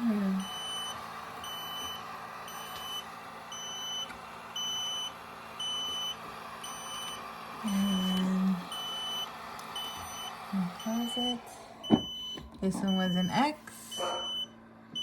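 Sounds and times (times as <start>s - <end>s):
steady hum: 0.0s - 15.0s
high alarm beeps: 0.4s - 15.0s.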